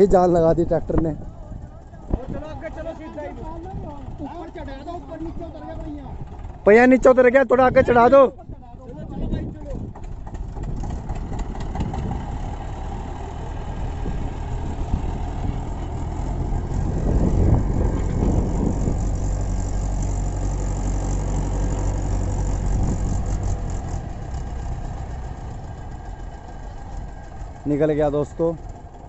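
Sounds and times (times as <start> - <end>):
tractor diesel engines under load: 0.0 - 29.0.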